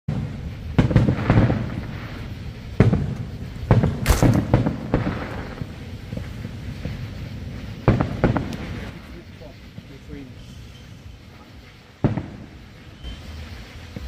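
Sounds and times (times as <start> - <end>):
fireworks booms and bangs: 0.1 - 14.0.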